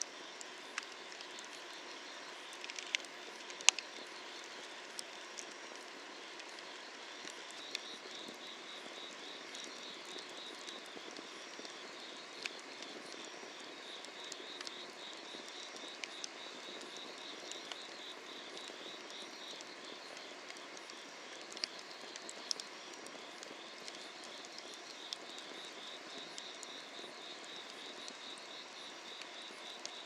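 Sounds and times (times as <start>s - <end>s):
firewood crackling and popping: 0.0s - 30.0s
insects trilling: 0.0s - 30.0s.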